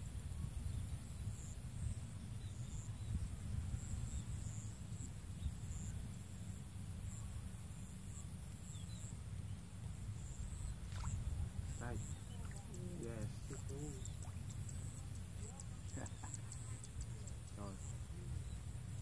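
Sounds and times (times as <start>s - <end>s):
insects chirping: 0.0s - 19.0s
steady low rumble: 0.0s - 19.0s.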